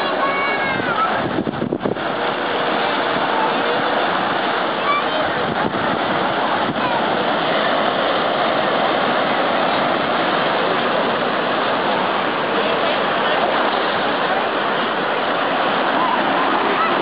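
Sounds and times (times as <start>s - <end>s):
surf breaking over rocks: 0.0s - 17.0s.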